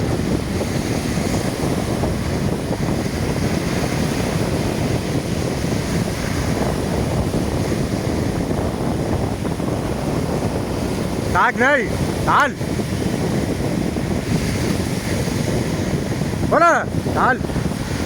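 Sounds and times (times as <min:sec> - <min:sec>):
sea waves: 0:00.0 - 0:18.0
wind buffeting microphone: 0:00.0 - 0:18.0.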